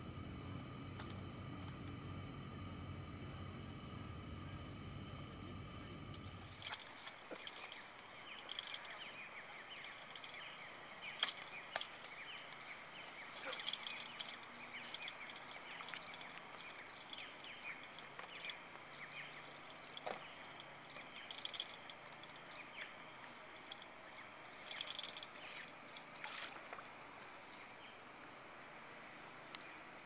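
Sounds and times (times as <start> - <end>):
small birds chirping: 0.0 - 26.4.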